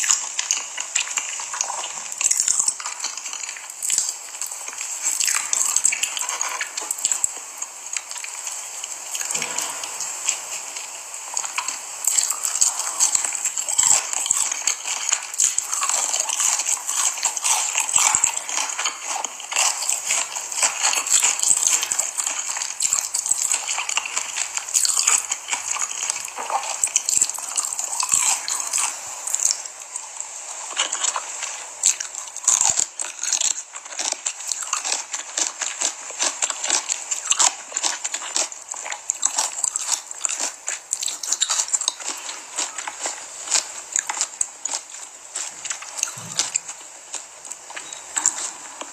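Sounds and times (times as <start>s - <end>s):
chewing and biting: 0.0s - 48.9s.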